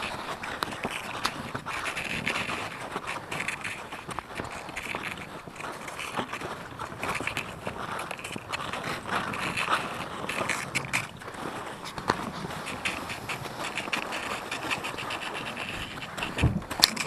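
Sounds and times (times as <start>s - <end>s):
skis crunching over snow: 0.0s - 17.0s
sled scraping over snow: 0.0s - 17.0s.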